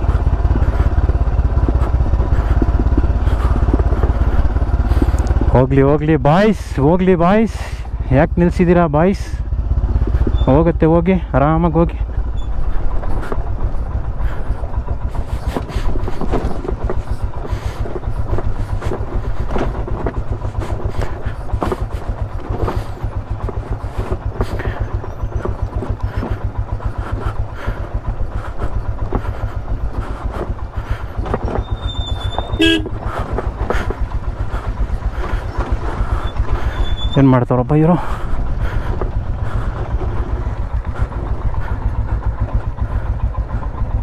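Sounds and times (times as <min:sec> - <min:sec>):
motorcycle engine pulsing: 0:00.0 - 0:44.0
motorcycle rattling over stones: 0:00.0 - 0:44.0.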